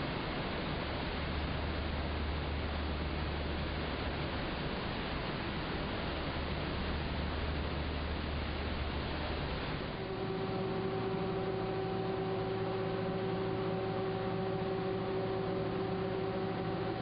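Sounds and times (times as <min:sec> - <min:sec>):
machinery hum and hiss: 0:00.0 - 0:17.0
steady droning tone: 0:00.0 - 0:17.0.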